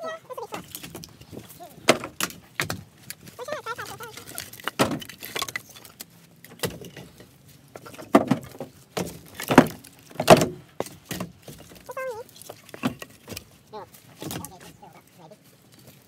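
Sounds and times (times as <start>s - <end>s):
firewood logs knocking together: 0.4s - 16.0s.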